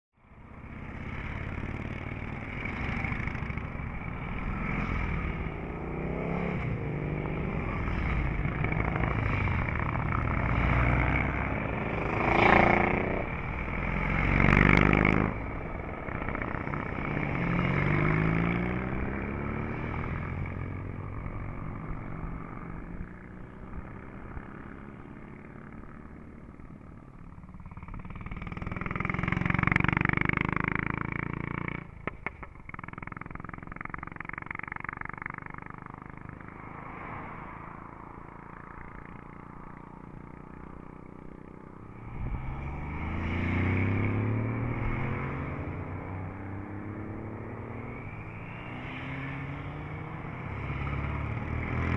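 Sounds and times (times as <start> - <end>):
motorcycles accelerating: 0.2 - 51.9
motorcycles passing: 0.2 - 51.9.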